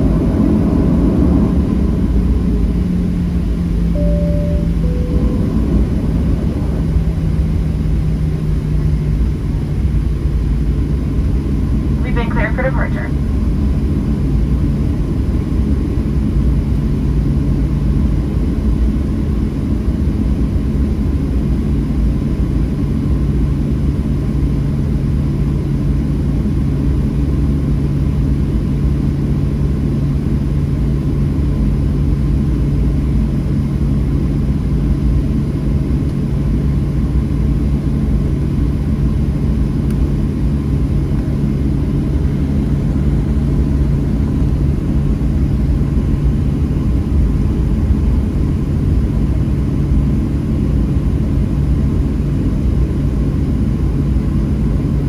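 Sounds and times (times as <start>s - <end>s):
airplane taxiing rumble: 0.0s - 55.0s.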